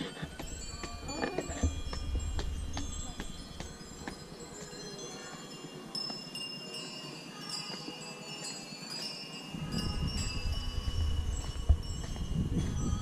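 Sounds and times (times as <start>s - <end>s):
tinkling metallic chimes: 0.0s - 13.0s.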